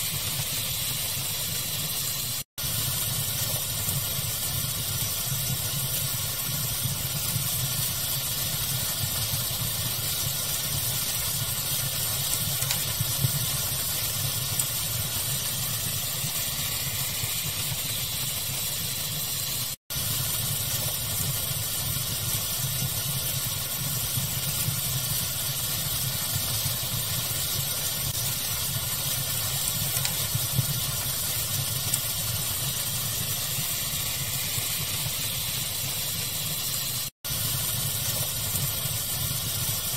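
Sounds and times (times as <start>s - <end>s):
fire crackling: 0.0s - 39.9s
steady hiss: 0.0s - 39.9s.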